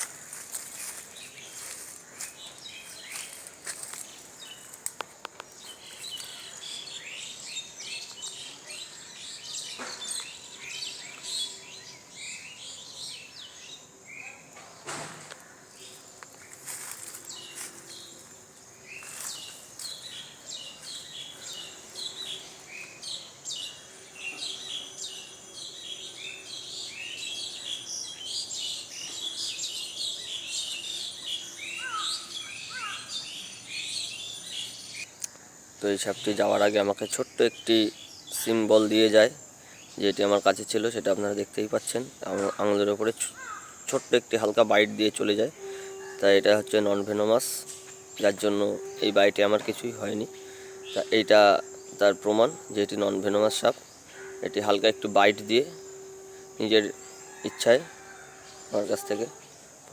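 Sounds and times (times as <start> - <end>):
small birds chirping and trilling: 0.0 - 59.9.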